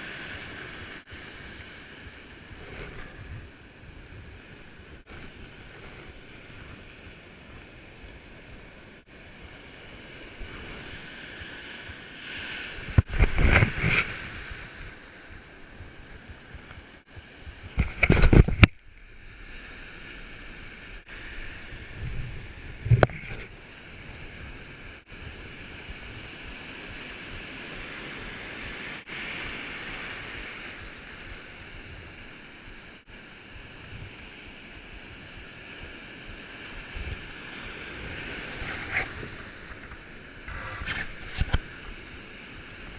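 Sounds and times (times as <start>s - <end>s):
surf washing on shore: 0.0s - 42.9s
wind noise: 0.0s - 42.9s.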